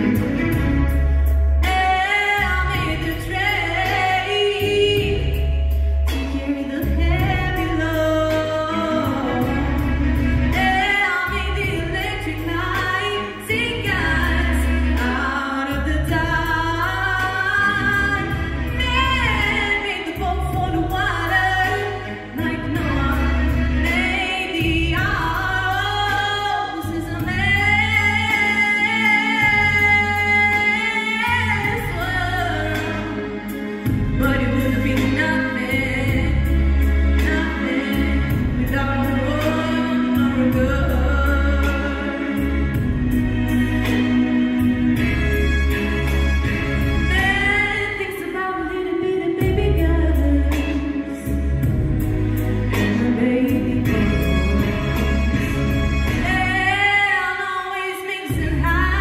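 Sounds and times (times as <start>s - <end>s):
girl singing pop song: 0.0s - 45.2s, 46.4s - 59.0s
instrumental accompaniment with bass: 0.0s - 59.0s.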